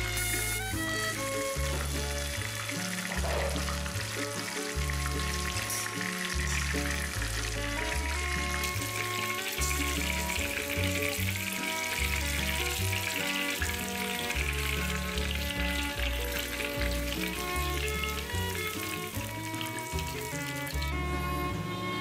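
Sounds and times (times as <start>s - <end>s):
background music with bass line: 0.0s - 22.0s
chicken sizzling in hot oil: 0.0s - 22.0s.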